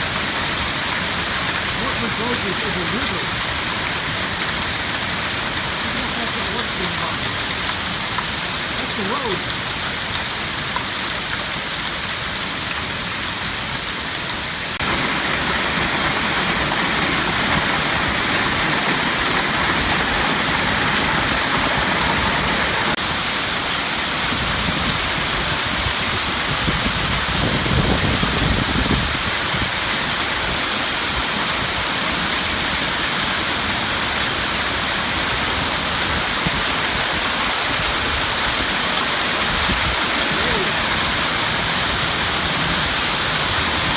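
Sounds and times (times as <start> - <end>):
hail and rain pelting down: 0.0 - 43.9.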